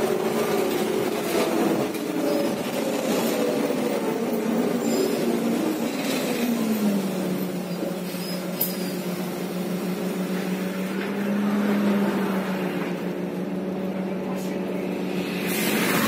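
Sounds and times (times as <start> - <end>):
bus engine hum: 0.0 - 16.0
road noise: 0.0 - 16.0.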